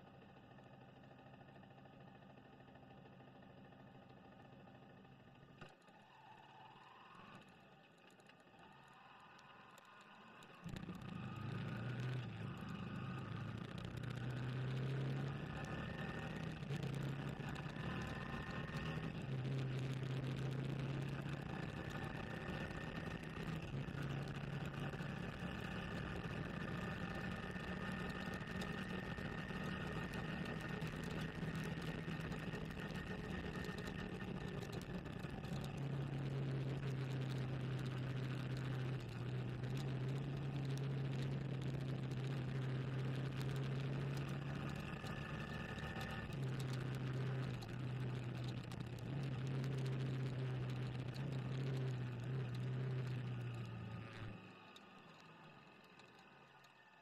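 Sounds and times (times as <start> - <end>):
motorcycle engine accelerating: 8.5 - 57.0
wind and road noise: 9.9 - 57.0.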